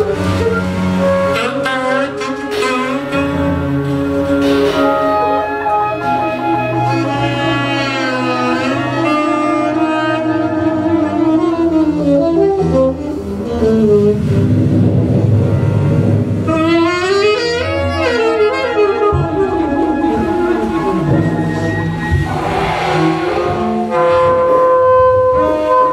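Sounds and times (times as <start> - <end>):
saxophone sliding lines: 0.0 - 14.5, 16.5 - 25.9
big band jazz: 0.0 - 25.9.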